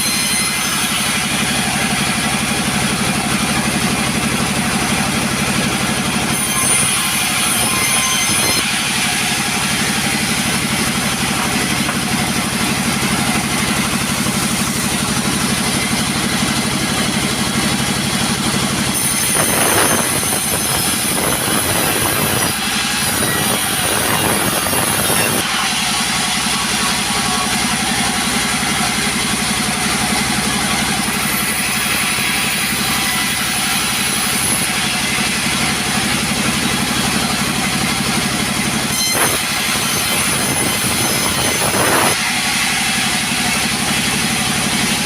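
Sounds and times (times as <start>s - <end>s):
chainsaw engine running: 0.0s - 45.0s.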